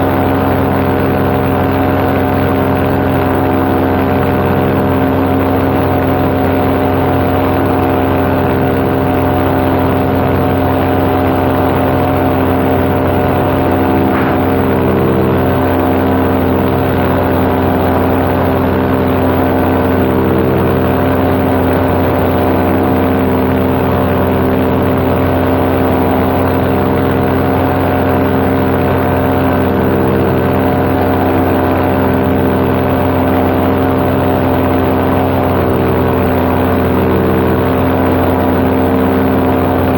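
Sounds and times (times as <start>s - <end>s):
paramotor engine drone: 0.0s - 39.9s.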